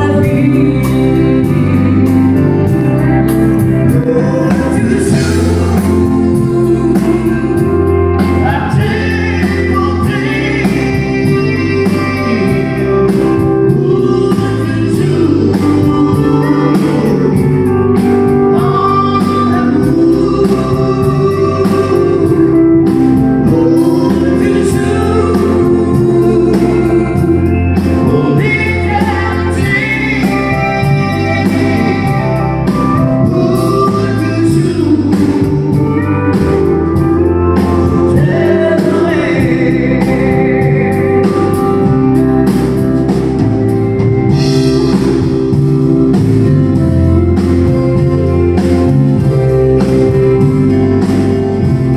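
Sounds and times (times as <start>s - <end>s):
country band playing: 0.0s - 51.9s.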